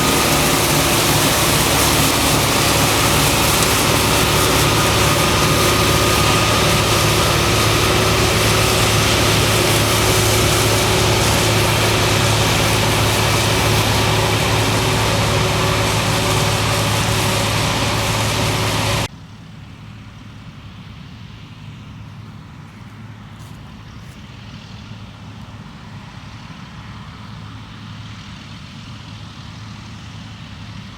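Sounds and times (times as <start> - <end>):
combine harvester engine drone: 0.0 - 30.9.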